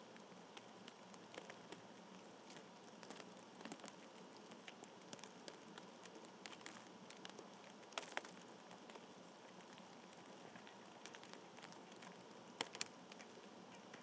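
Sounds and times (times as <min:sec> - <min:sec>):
soft outdoor hiss: 0:00.0 - 0:14.0.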